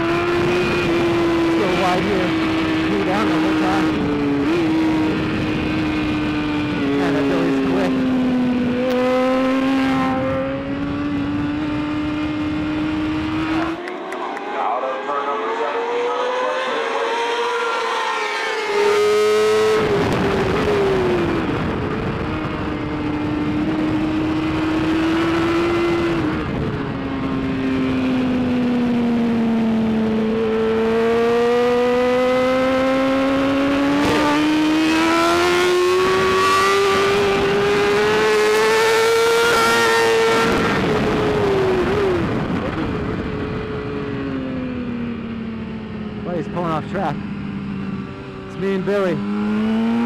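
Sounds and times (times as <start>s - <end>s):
motorcycle engine racing: 0.0s - 50.0s.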